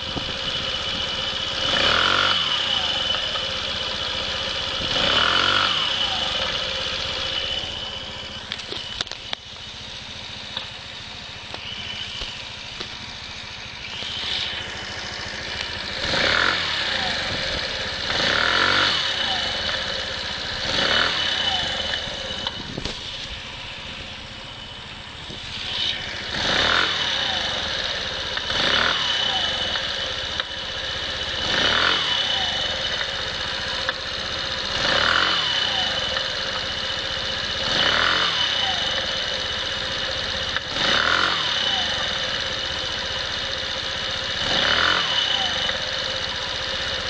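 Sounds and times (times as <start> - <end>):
high-pitched engine whine: 0.0 - 47.0
motorcycle engine revving: 0.0 - 47.0.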